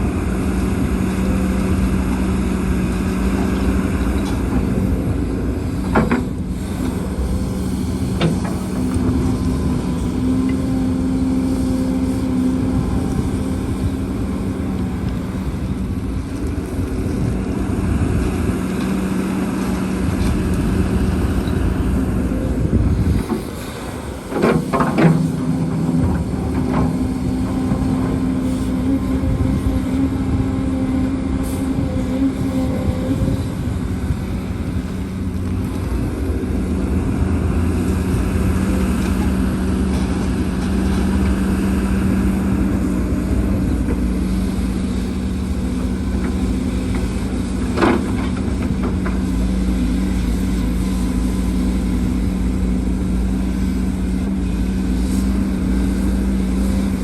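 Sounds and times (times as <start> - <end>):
diesel construction machinery running: 0.0 - 57.0.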